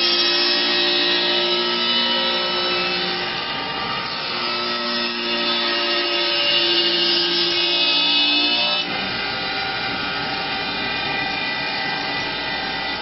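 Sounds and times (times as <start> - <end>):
cutter heads chipping wood: 0.0 - 13.0
steady machine hum: 0.0 - 13.0.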